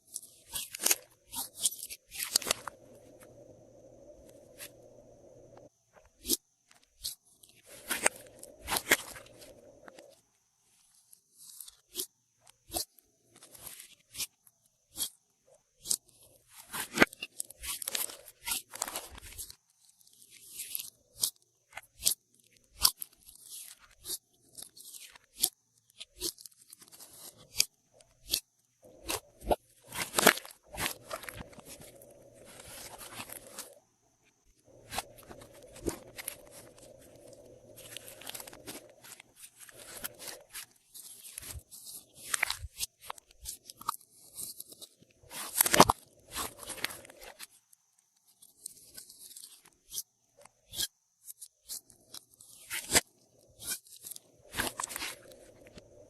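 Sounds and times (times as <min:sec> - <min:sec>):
crunchy crackling slime: 0:00.0 - 0:03.4, 0:05.6 - 0:10.2, 0:10.9 - 0:55.8.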